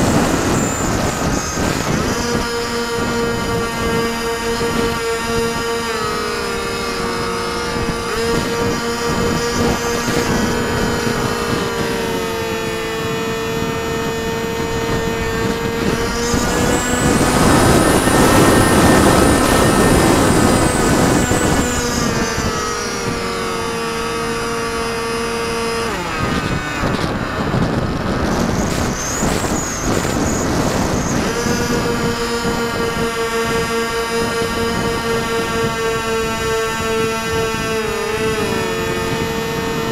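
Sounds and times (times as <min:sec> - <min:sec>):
model airplane motor and propeller: 0:00.0 - 0:39.9
wind rushing over microphone: 0:00.0 - 0:39.9.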